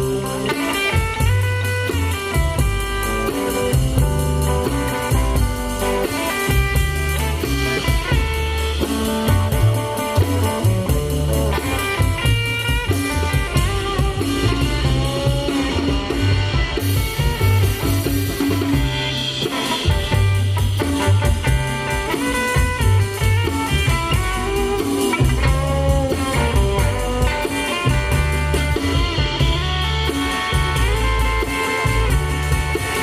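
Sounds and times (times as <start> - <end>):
bass: 0.0 - 33.0
drum kit beat: 0.0 - 33.0
lead guitar soloing: 0.0 - 33.0.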